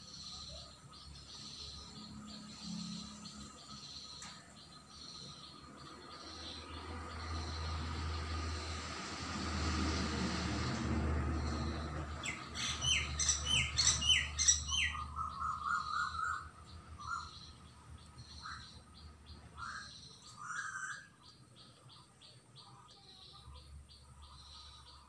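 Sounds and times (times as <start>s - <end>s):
birds calling: 0.0s - 9.6s, 10.6s - 25.0s.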